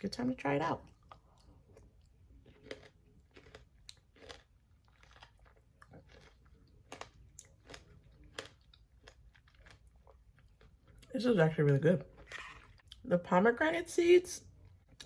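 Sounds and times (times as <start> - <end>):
faint chewing crunches: 0.8 - 13.1, 14.4 - 15.0.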